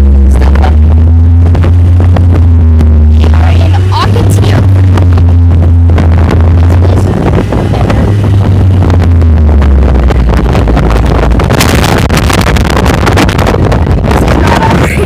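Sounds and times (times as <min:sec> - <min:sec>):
distorted vehicle engine running: 0:00.0 - 0:15.0
wind buffeting microphone: 0:00.0 - 0:15.0.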